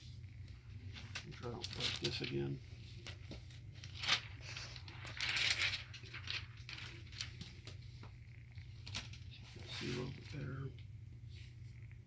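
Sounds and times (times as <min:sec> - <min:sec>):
rustling scrape: 0:00.0 - 0:10.6.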